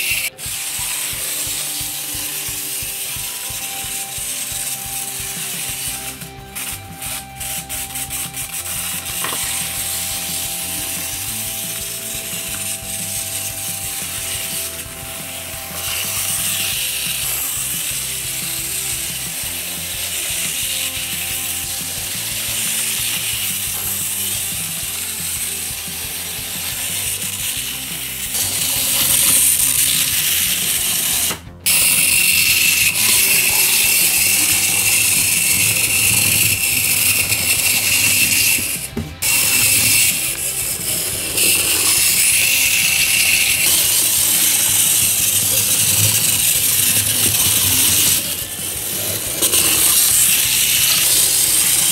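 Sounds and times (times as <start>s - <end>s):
wind-up toy train gears whirring: 0.0s - 51.9s.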